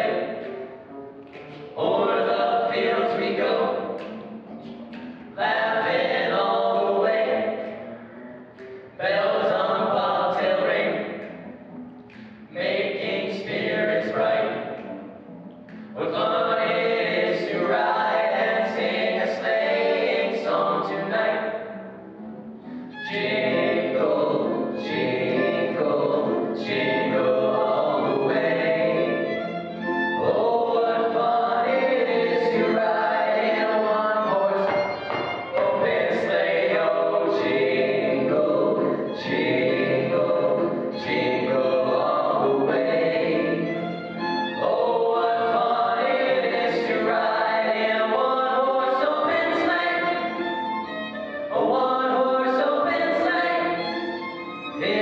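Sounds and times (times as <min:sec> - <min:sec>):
male voices singing in harmony: 0:01.8 - 0:04.2, 0:05.4 - 0:07.8, 0:09.0 - 0:11.2, 0:12.5 - 0:14.9, 0:15.8 - 0:21.6, 0:23.0 - 0:50.5, 0:51.5 - 0:55.0.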